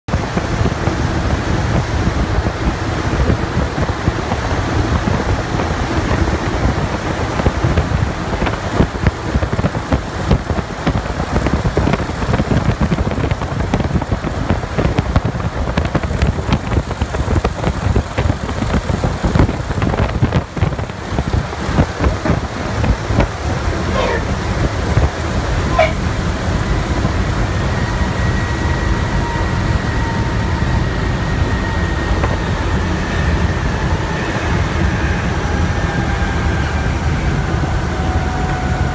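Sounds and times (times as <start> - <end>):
rushing air: 0.1 - 35.8
aircraft engines droning: 0.1 - 38.9.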